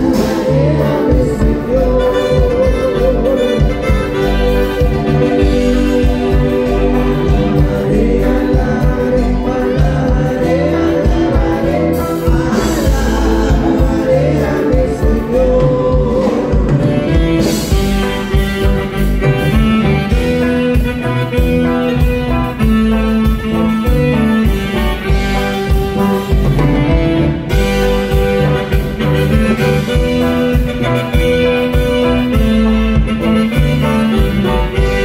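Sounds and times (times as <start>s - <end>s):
live band amplified music: 0.0s - 35.0s
wavering lead melody: 0.0s - 35.0s.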